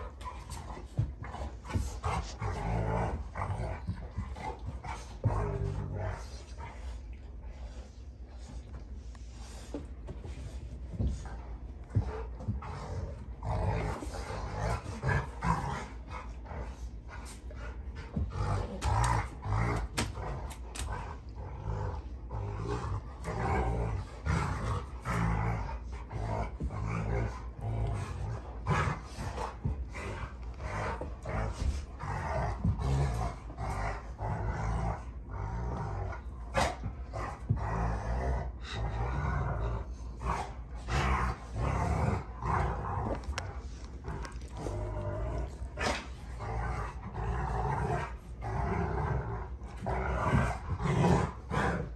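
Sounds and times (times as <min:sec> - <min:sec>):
dogs growling: 0:00.0 - 0:51.9.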